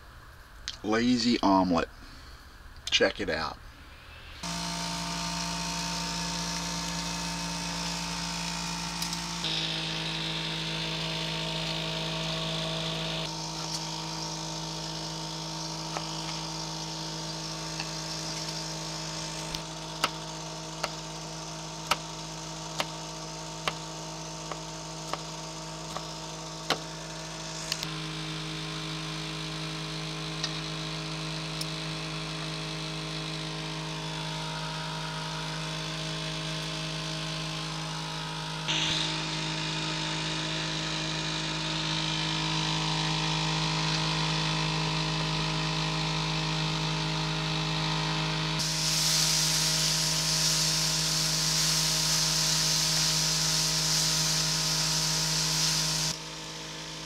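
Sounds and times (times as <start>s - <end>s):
buzzing motor hum: 3.7s - 57.0s.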